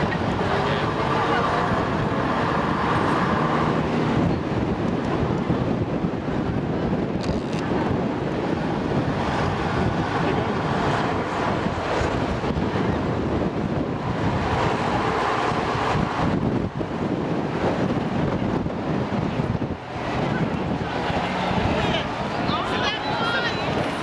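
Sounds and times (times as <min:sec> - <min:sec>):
bus engine running: 0:00.0 - 0:24.0
wind rushing over microphone: 0:00.0 - 0:24.0.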